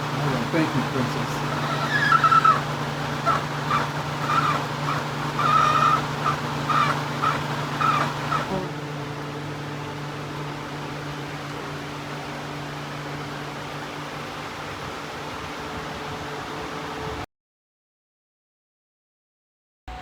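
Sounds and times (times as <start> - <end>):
fan humming: 0.0 - 17.2.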